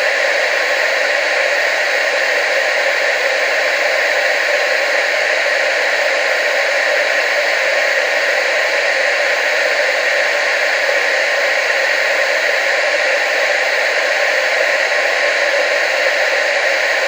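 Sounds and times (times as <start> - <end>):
television static hiss: 0.0 - 17.0.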